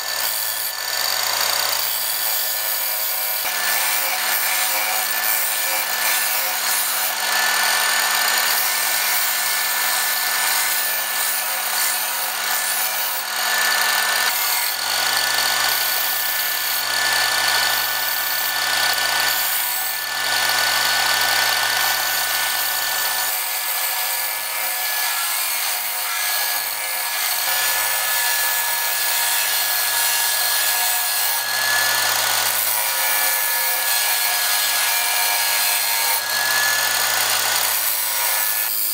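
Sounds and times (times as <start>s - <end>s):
bench grinder grinding blade: 0.0s - 38.9s.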